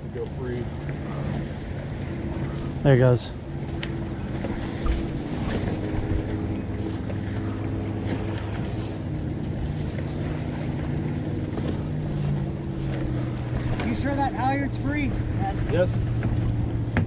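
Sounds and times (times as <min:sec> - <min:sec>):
boat engine running: 0:00.0 - 0:17.0
water around hull: 0:00.0 - 0:17.0
wind buffeting microphone: 0:00.0 - 0:17.0.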